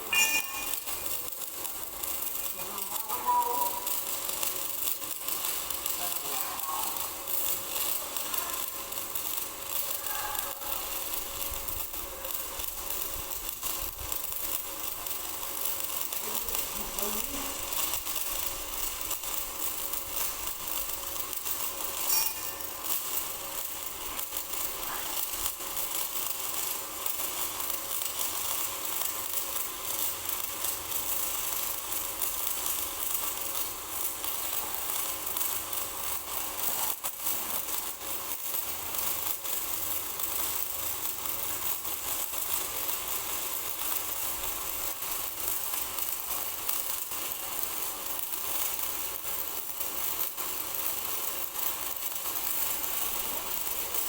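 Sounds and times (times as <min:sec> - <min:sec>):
welding arc crackling: 0:00.0 - 0:54.0.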